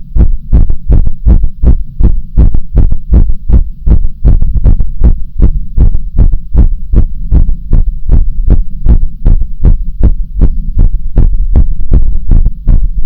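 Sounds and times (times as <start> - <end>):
constant low hum: 0.0 - 13.0
human heartbeat thumps: 0.0 - 13.0.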